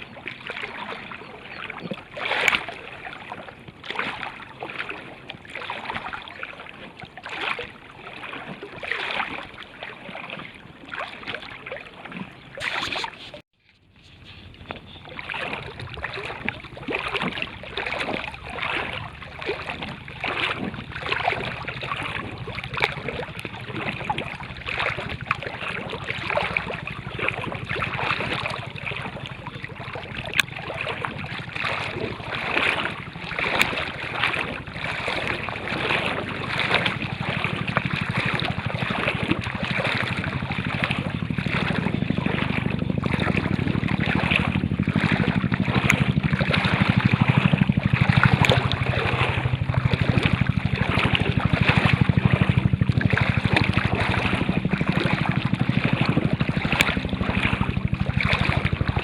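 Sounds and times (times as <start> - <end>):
water rushing and splashing: 0.0 - 13.4, 14.0 - 59.0
wind rumble on microphone: 0.0 - 59.0.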